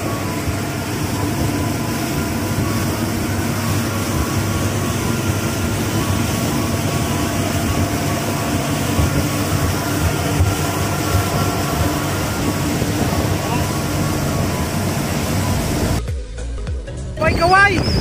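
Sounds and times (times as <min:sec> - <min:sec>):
rushing wind: 0:00.0 - 0:16.0
water noise: 0:00.0 - 0:16.0
outboard engine drone: 0:00.0 - 0:18.0.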